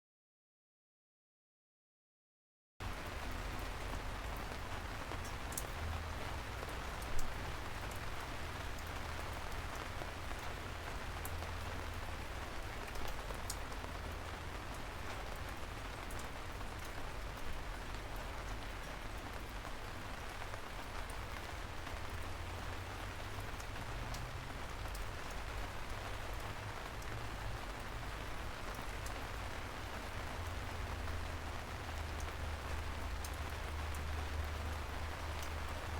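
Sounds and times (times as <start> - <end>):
rain on a fabric canopy: 2.8 - 35.9.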